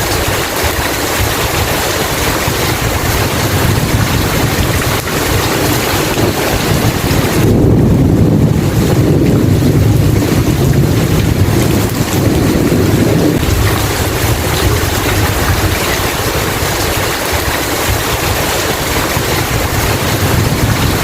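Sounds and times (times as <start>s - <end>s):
heavy rain: 0.0s - 21.0s
thunder rolling: 0.0s - 21.0s.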